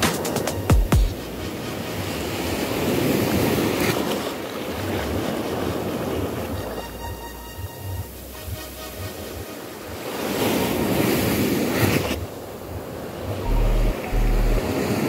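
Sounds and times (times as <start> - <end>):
sea waves on a beach: 0.0 - 15.0.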